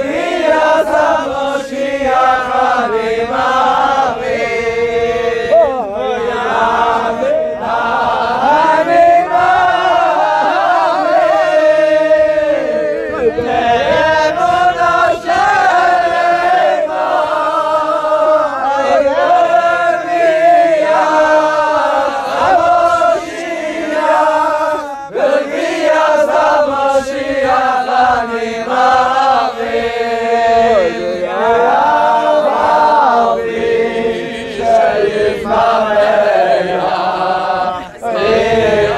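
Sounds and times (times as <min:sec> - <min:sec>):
group chanting: 0:00.0 - 0:38.9.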